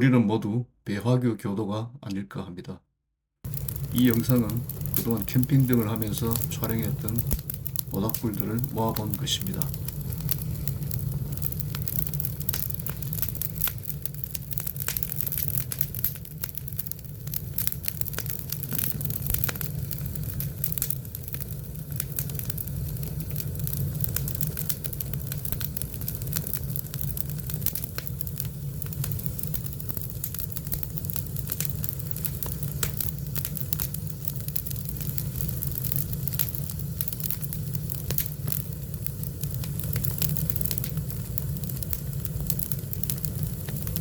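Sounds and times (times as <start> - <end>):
campfire crackling and popping: 3.4 - 44.0
fire low rumble: 3.4 - 44.0.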